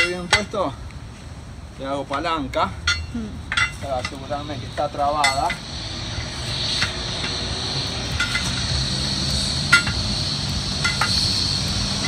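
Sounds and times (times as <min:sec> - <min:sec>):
tire iron clinking on steel rim: 0:00.0 - 0:00.8, 0:01.9 - 0:05.8, 0:06.7 - 0:12.0.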